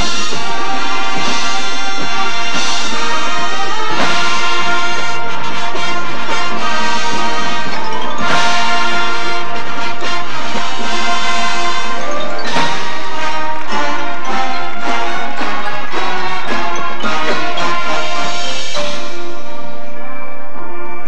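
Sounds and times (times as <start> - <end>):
marching band brass chords: 0.0 - 21.0.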